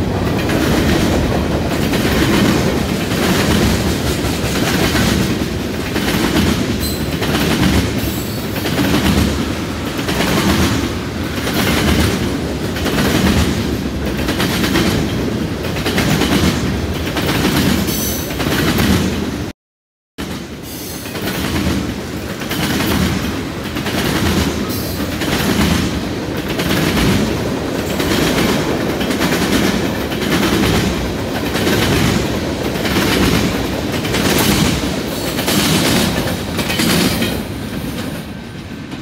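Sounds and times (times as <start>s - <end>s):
train wheels clacking over rails: 0.0s - 19.5s, 20.2s - 39.0s.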